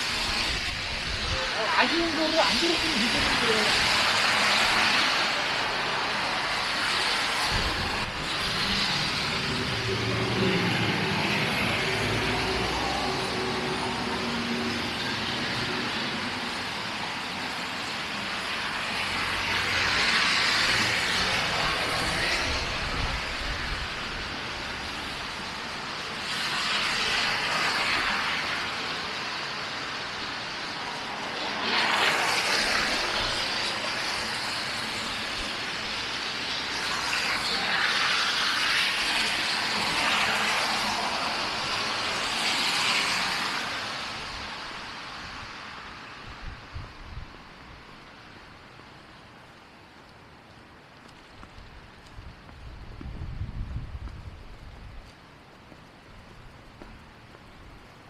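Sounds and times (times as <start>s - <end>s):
cars passing on snowy street: 0.0s - 58.0s.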